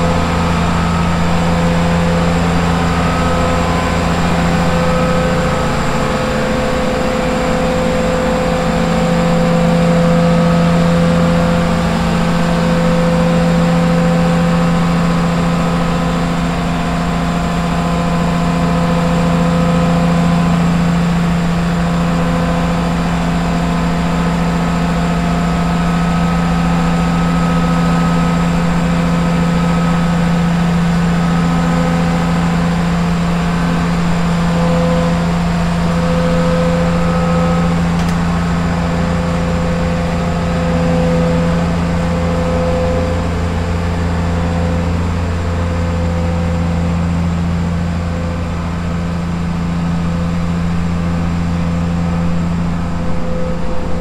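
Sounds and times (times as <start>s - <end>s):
combine diesel engine droning: 0.0s - 54.0s.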